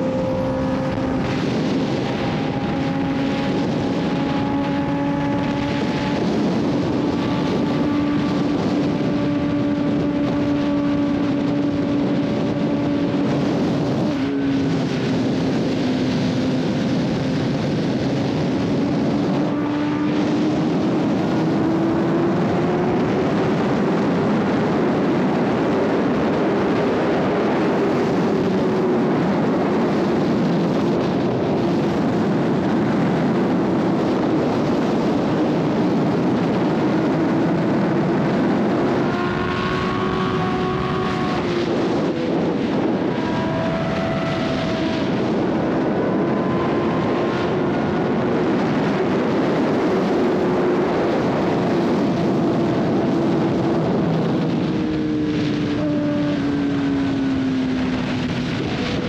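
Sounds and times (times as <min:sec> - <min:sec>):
motorcycle engine running: 0:00.0 - 0:59.0
wind rushing: 0:00.0 - 0:59.0.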